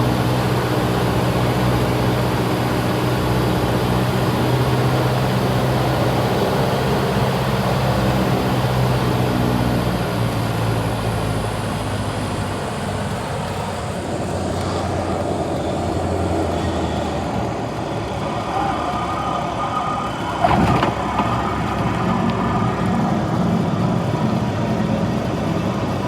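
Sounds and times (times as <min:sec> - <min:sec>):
airplane engine and propeller droning: 0:00.0 - 0:26.0.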